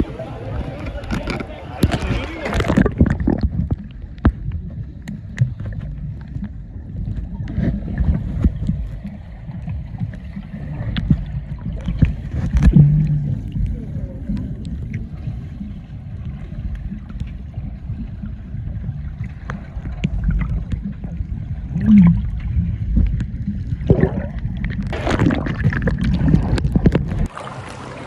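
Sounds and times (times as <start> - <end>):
wind rumble on microphone: 0.0 - 27.3
river water gurgling: 5.0 - 28.0.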